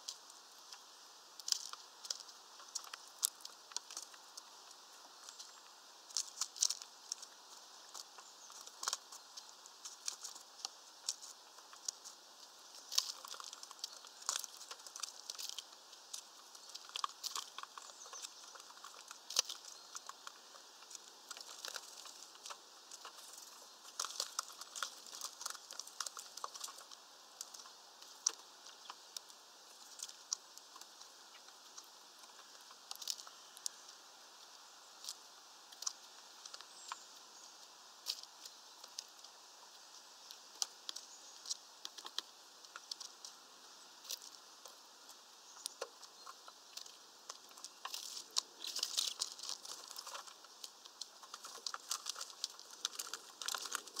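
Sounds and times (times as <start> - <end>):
birds pecking and cracking seed: 0.0 - 54.0.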